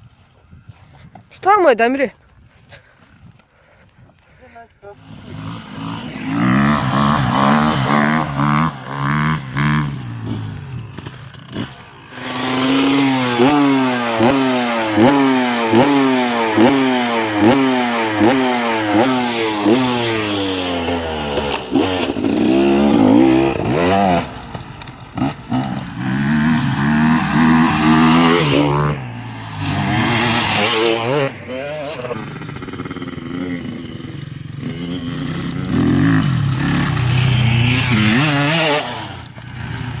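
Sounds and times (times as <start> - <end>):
dirt bike engine revving: 4.8 - 40.0.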